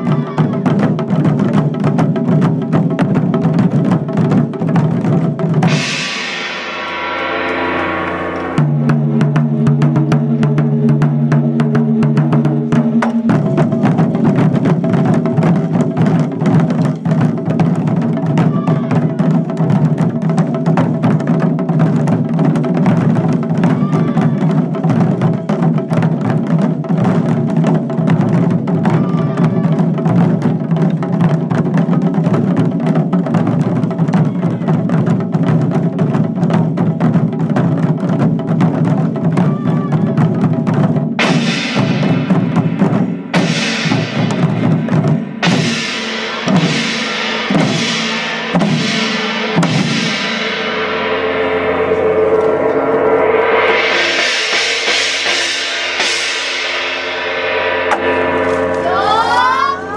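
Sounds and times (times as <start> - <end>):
taiko drums: 0.0 - 59.9.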